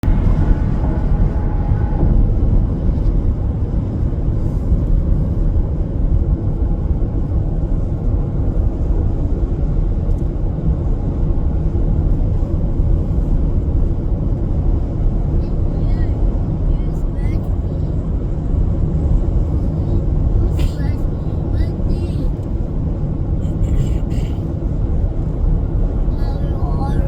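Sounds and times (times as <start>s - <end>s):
road noise: 0.0s - 27.0s
truck engine drone: 0.0s - 27.0s.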